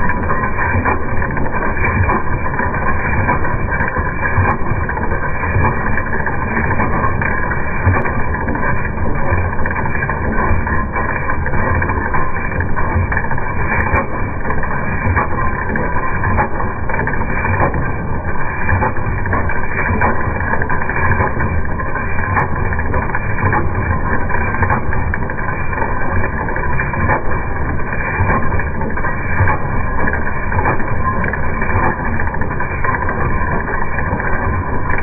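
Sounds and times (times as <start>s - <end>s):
engine driving log saw chain: 0.0s - 35.0s.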